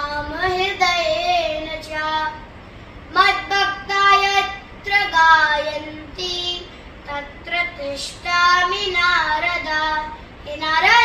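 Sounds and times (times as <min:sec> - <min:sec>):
boy singing unaccompanied: 0:00.0 - 0:02.5, 0:03.1 - 0:11.0.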